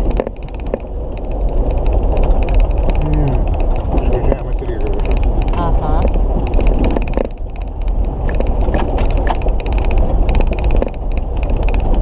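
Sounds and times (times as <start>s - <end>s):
rattles: 0.0s - 12.0s
stones clicking and knocking: 0.0s - 12.0s
vehicle engine and road rumble: 0.0s - 12.0s.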